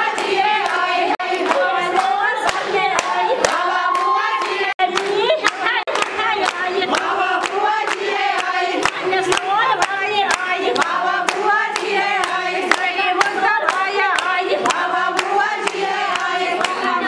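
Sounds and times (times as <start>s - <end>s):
group singing folk song: 0.0s - 17.0s
hand-clapping in time: 0.0s - 17.0s.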